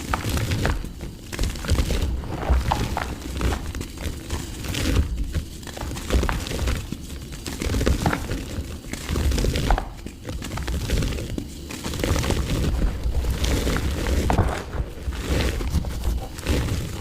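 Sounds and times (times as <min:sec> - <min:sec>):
mud crunching and cracking: 0:00.0 - 0:17.0.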